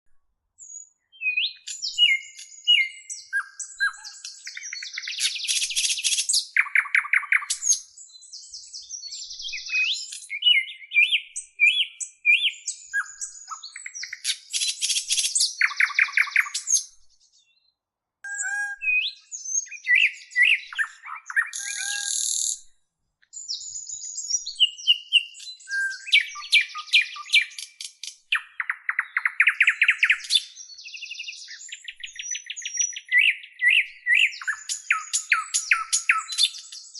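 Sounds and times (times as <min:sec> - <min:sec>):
songbirds singing and chirping: 0:00.2 - 0:36.9.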